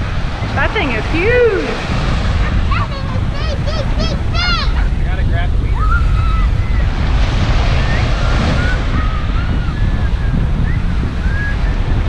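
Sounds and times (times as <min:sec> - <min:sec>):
surf breaking: 0:00.0 - 0:12.0
wind buffeting microphone: 0:00.0 - 0:12.0.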